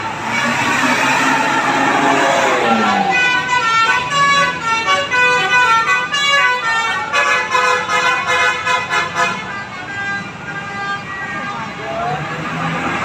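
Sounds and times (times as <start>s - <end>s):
tuned air horns playing a tune: 0.0s - 11.8s.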